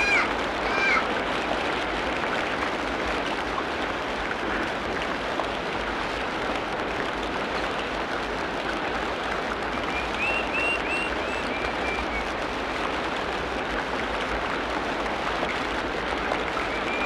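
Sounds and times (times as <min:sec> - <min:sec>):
rain on foliage: 0:00.0 - 0:17.0.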